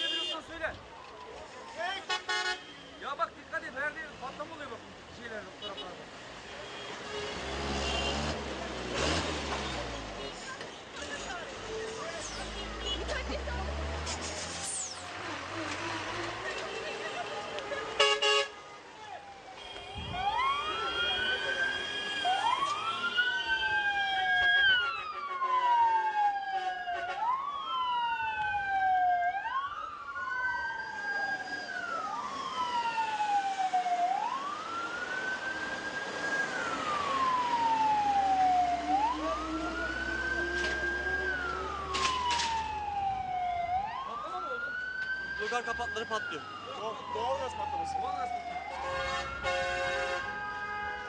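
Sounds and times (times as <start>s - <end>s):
emergency sirens wailing: 0.7s - 2.4s, 8.0s - 51.0s.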